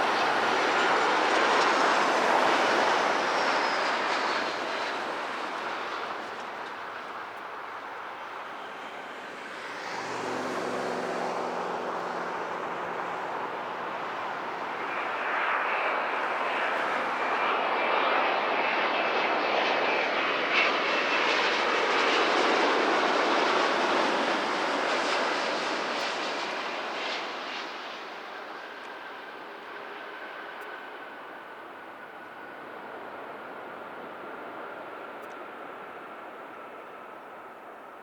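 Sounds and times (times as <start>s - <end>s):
faint high engine whine: 0.0s - 38.0s
jet engines rushing: 0.0s - 38.0s.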